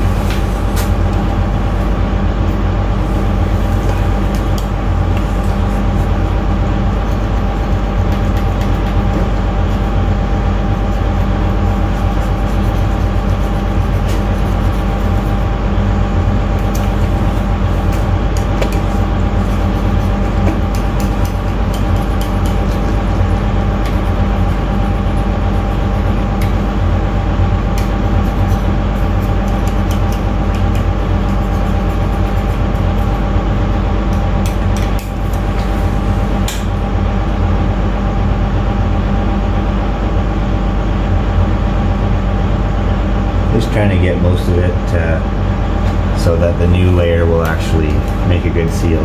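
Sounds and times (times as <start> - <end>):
loud machine drone: 0.0 - 49.0.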